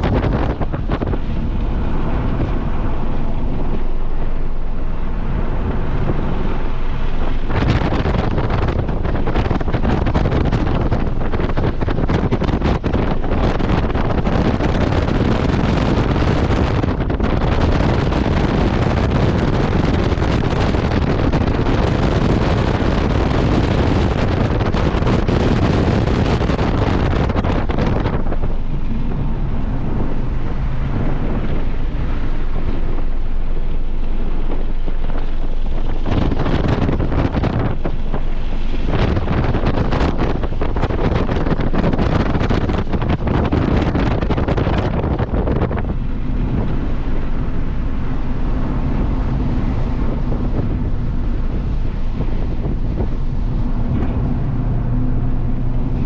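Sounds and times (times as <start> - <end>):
car engine running: 0.0 - 56.0
wind buffeting microphone: 0.0 - 56.0.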